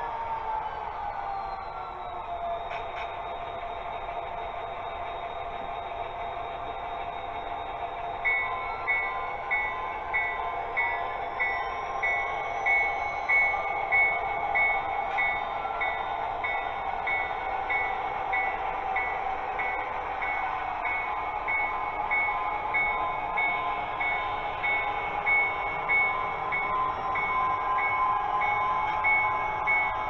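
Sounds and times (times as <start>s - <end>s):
locomotive bell ringing: 2.6s - 30.0s.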